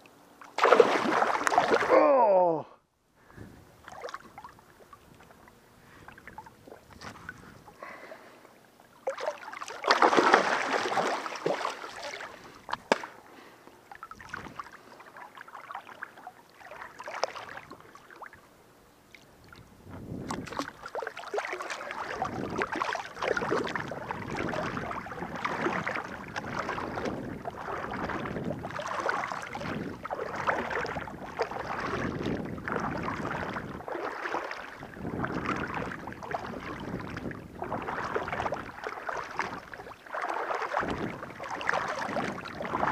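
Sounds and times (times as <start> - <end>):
water splashing: 0.4 - 2.2, 3.8 - 13.2, 13.9 - 18.4, 19.0 - 42.9
person wading through water: 0.4 - 2.6, 3.2 - 42.9.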